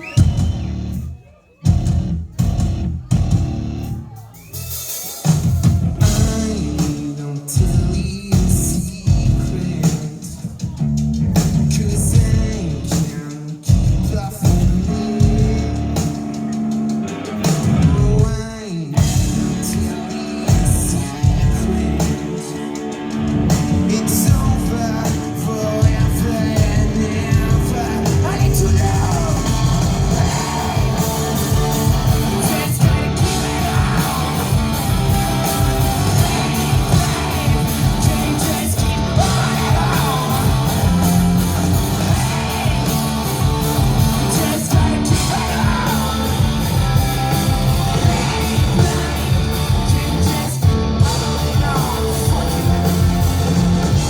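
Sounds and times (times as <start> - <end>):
live rock band playing: 0.0 - 54.0
person singing: 6.0 - 54.0.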